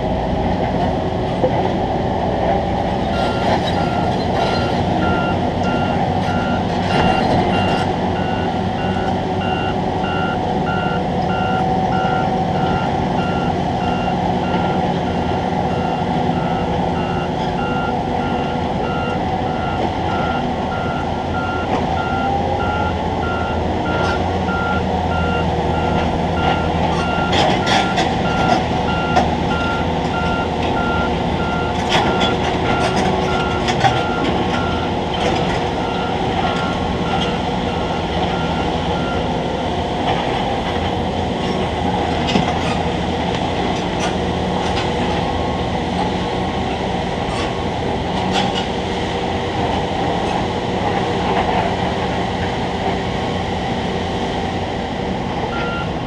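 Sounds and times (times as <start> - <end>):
crane machinery humming: 0.0 - 56.0.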